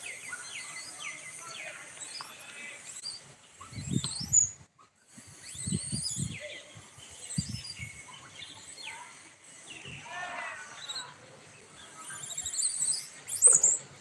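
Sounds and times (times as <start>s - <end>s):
monkeys squeaking and chirping: 0.0s - 14.0s.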